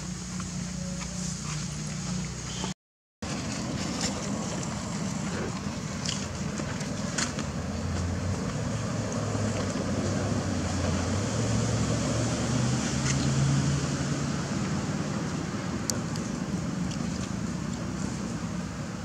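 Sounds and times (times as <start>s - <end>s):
outdoor background noise: 0.0s - 19.0s
vehicle engine humming: 0.0s - 19.0s.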